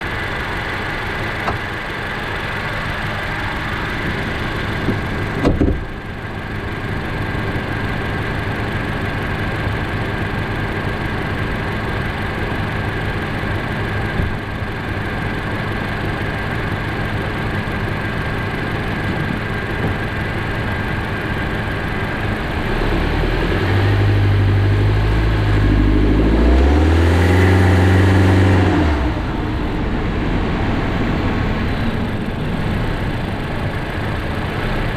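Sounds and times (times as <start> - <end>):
engine knock: 0.0 - 23.2, 29.2 - 34.9
car engine running: 0.0 - 34.9.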